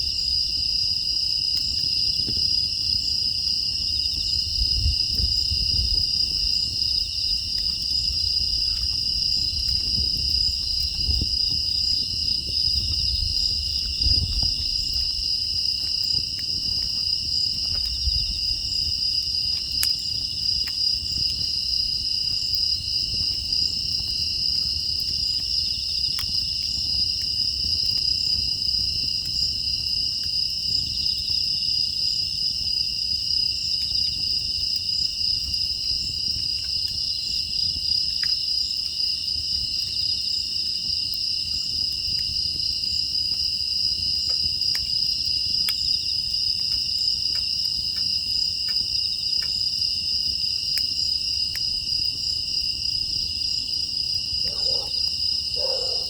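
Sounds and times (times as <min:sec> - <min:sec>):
crickets chirping: 0:00.0 - 0:56.0
wood fire crackling: 0:00.0 - 0:56.0.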